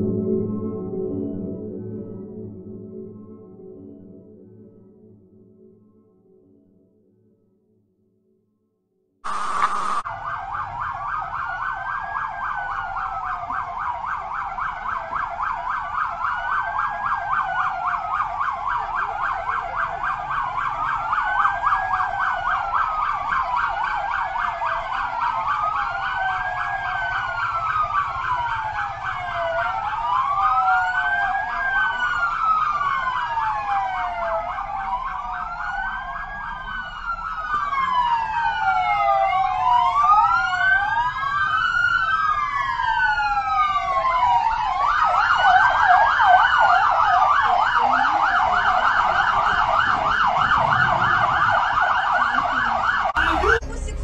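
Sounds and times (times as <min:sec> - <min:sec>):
emergency sirens wailing: 0:09.2 - 0:54.0.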